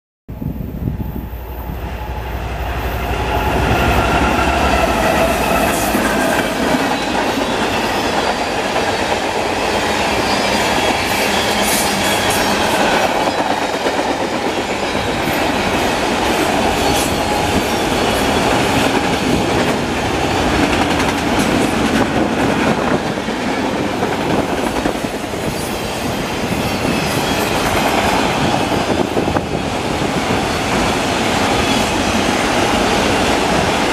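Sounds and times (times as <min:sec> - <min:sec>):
freight train rumbling past: 0:00.3 - 0:33.9
wheels clickety-clack on rails: 0:03.2 - 0:33.9.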